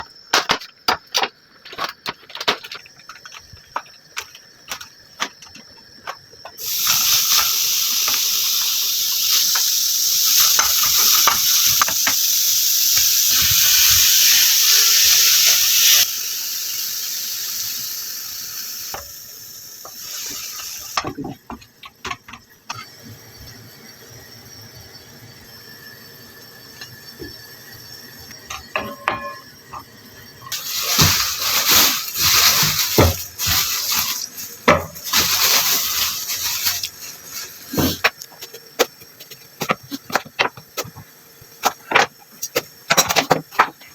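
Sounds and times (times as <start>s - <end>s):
food sizzling in hot oil: 2.3s - 43.9s.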